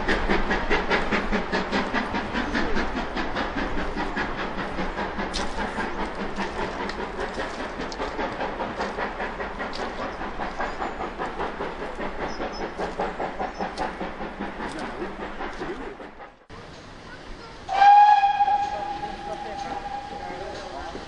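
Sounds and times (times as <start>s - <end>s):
steam locomotive exhaust beats: 0.0s - 21.0s
wheels clicking over rail joints: 0.0s - 21.0s.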